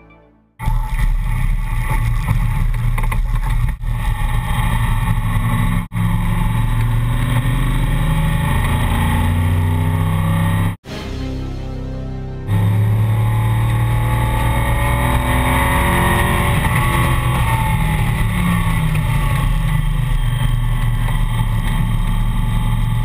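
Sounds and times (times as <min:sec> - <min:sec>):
racing car engine running hard: 0:00.6 - 0:10.8, 0:12.5 - 0:23.0.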